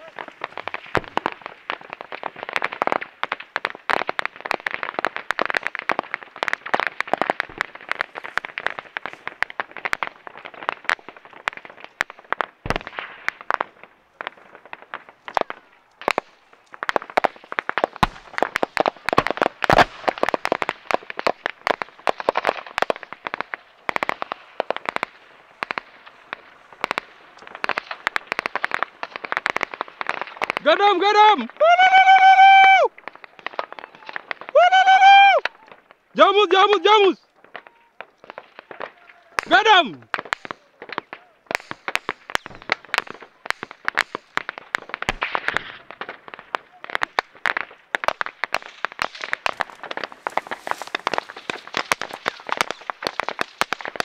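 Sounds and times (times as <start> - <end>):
dry grass crackling and popping: 0.0 - 54.0.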